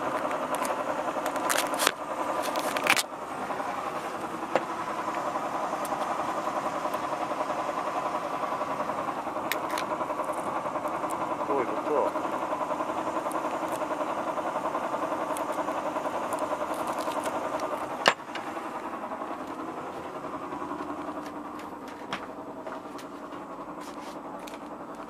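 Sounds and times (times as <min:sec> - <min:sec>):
boat engine throbbing: 0:00.0 - 0:25.0.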